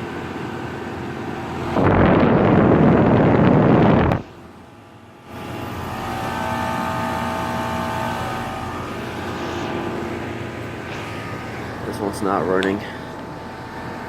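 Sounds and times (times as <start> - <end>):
compressor humming: 0.0 - 14.0
condenser fan rushing: 0.0 - 14.0.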